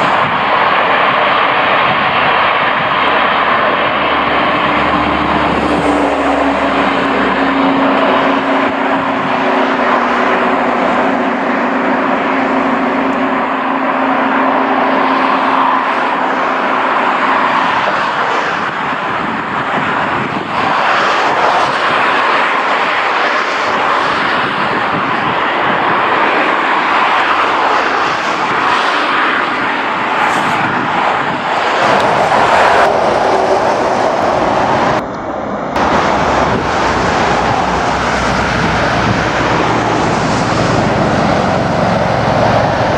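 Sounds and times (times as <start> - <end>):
passing train rushing: 0.0 - 42.9
trucks driving by: 0.0 - 42.9.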